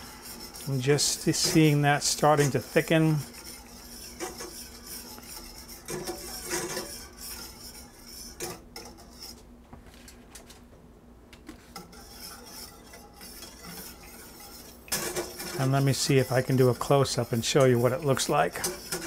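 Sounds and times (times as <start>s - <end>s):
whisk scraping metal pan: 0.0s - 9.5s, 11.6s - 19.0s.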